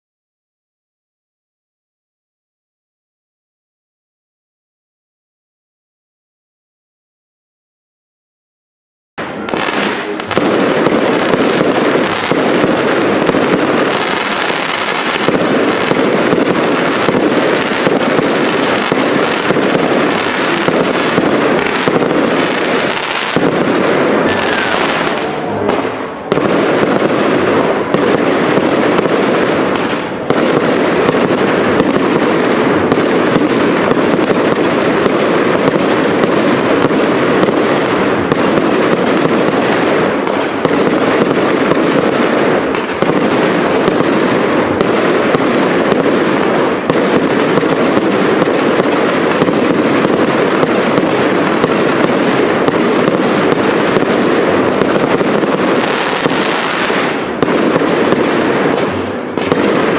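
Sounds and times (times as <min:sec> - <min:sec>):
fireworks bangs and crackling: 0:09.2 - 0:59.9.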